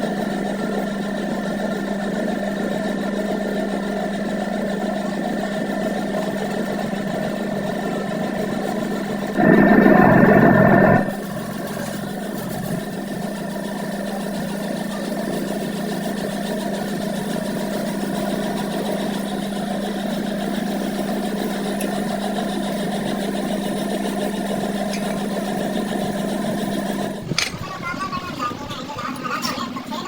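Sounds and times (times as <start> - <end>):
workshop machine humming: 0.0 - 30.0.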